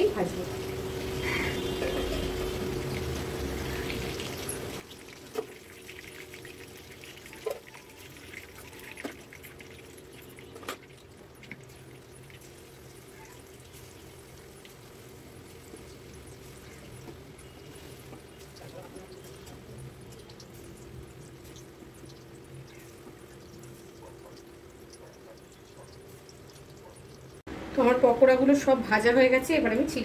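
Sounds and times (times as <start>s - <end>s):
chicken deep-frying in oil: 0.0s - 30.0s.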